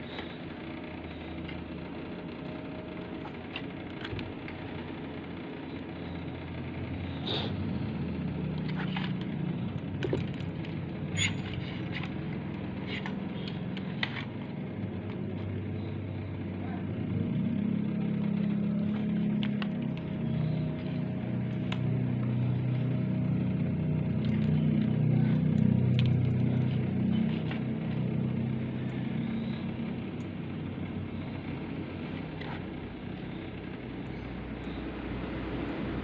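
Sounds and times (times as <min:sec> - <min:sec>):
traffic engine hum: 0:00.0 - 0:36.0.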